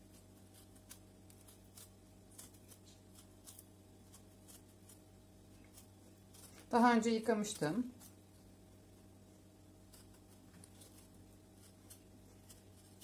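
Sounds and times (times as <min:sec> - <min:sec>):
fingers peeling tomato skin: 0:00.0 - 0:08.3, 0:09.8 - 0:13.0
low steady hum: 0:00.0 - 0:13.0.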